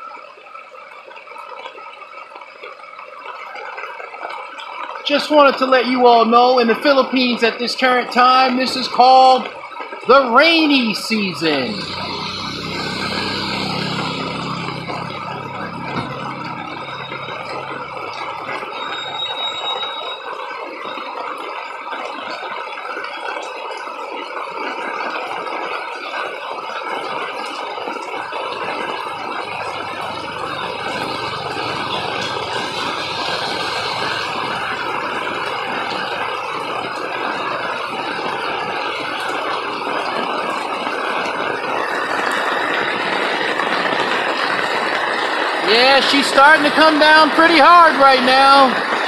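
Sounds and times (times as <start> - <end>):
heavy rain on a paved street: 0.0 - 49.0.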